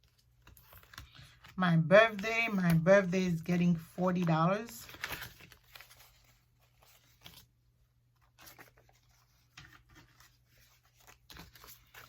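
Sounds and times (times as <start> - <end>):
paper banknotes rustling: 0.0 - 7.5, 8.2 - 12.0.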